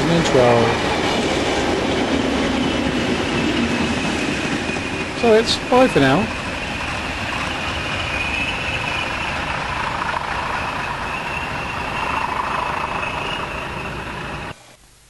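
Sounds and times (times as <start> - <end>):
diesel locomotive engines running: 0.0 - 14.6.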